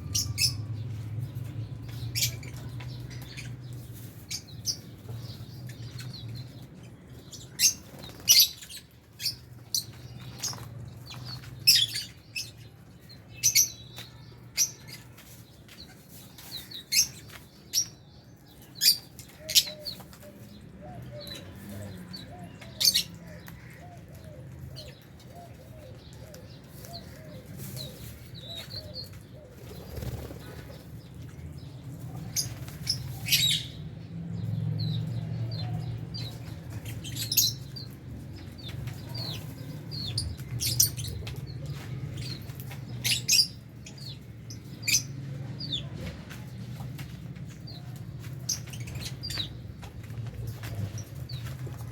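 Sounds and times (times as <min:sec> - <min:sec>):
birds chirping and shrieking: 0:00.0 - 0:51.9.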